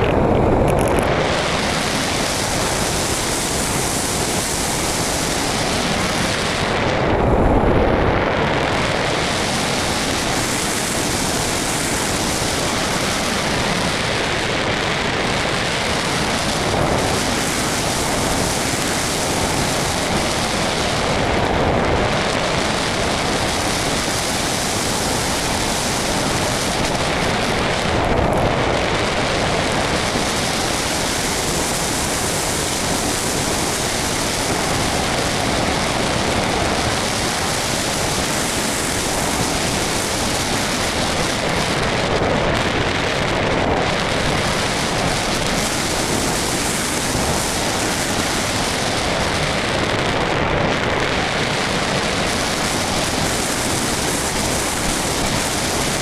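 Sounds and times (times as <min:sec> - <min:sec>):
model plane motor: 0:00.0 - 0:56.0
rush of air over camera: 0:00.0 - 0:56.0.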